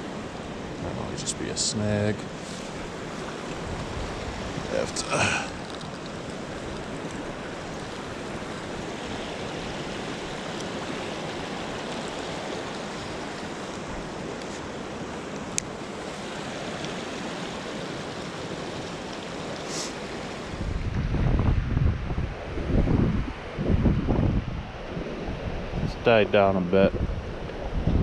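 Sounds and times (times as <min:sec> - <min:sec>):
creek water rushing: 0:00.0 - 0:21.4, 0:22.2 - 0:28.0.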